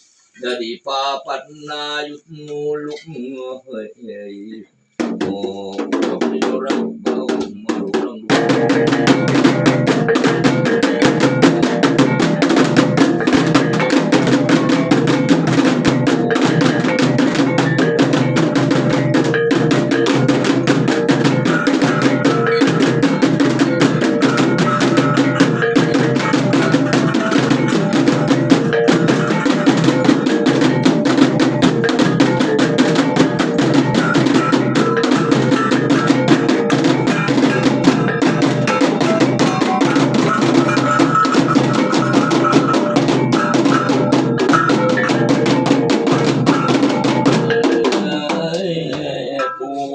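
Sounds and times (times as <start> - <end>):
fast drumming: 5.0 - 49.9
held tones: 8.3 - 48.6.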